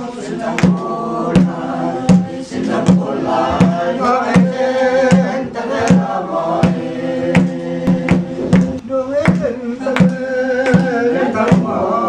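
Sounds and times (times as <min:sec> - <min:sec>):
hand drum beats: 0:00.6 - 0:11.8.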